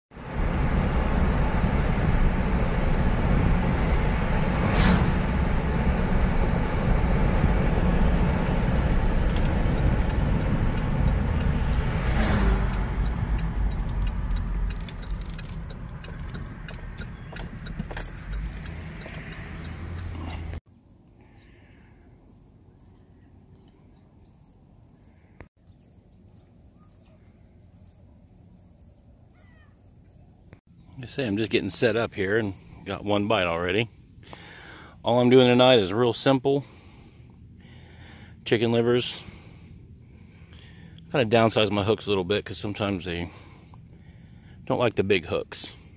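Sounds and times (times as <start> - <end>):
car road and engine noise: 0.1 - 45.9.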